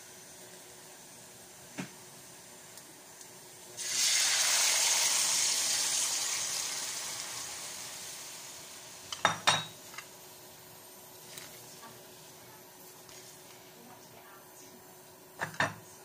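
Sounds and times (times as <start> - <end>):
loud sizzle in pan: 0.0 - 16.0.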